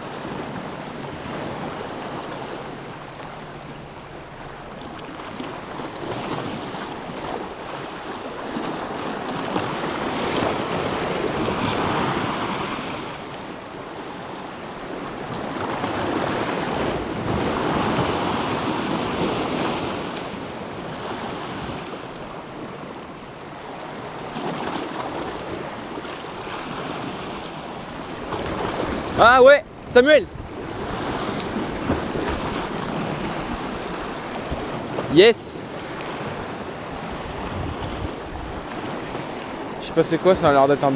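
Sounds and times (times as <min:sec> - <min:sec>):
surf washing against rocks: 0:00.0 - 0:40.9.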